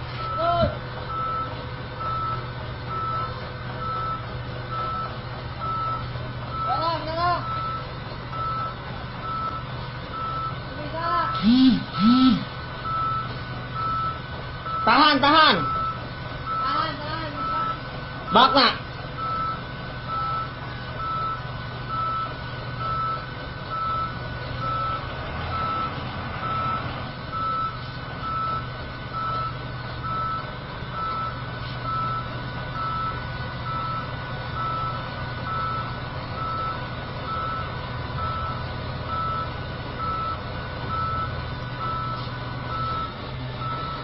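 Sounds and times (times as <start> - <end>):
truck engine running: 0.0 - 44.0
truck reversing alarm beeping: 0.1 - 44.0.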